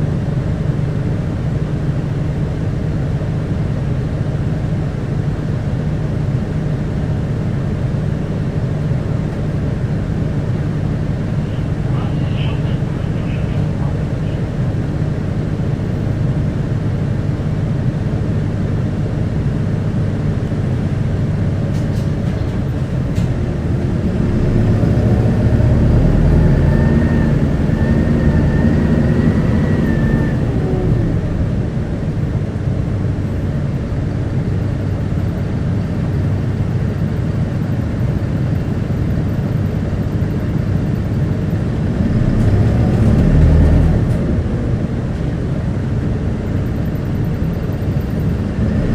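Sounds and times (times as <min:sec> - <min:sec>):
bus diesel engine drone: 0:00.0 - 0:48.9.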